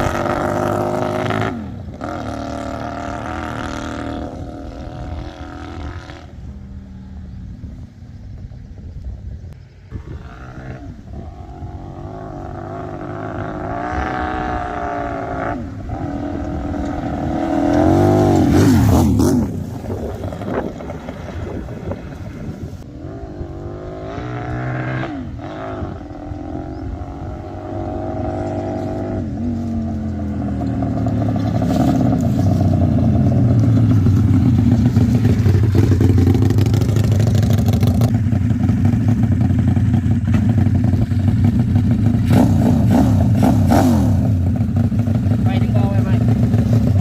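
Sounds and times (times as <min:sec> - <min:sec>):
engine running and revving: 0:00.0 - 0:47.0.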